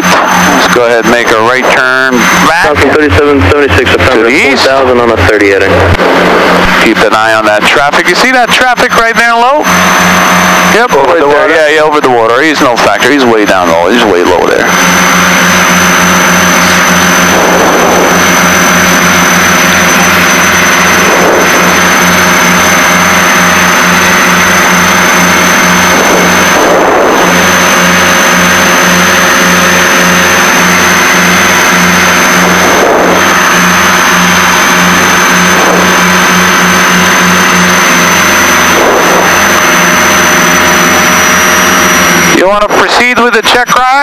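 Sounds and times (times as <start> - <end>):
airplane engines droning: 0.0 - 44.0.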